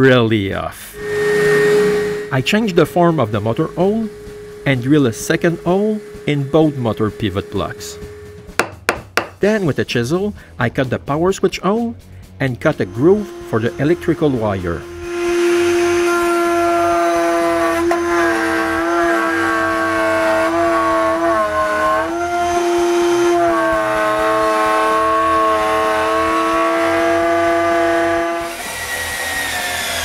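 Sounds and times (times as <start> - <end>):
router spinning high-pitched: 0.9 - 9.3, 12.6 - 30.0.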